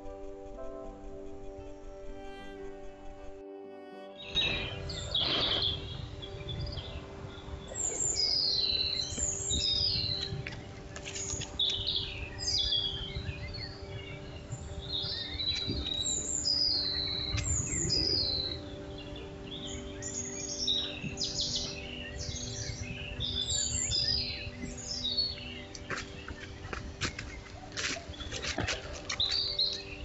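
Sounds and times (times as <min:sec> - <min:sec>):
birds singing whistled phrases: 0:04.2 - 0:30.0.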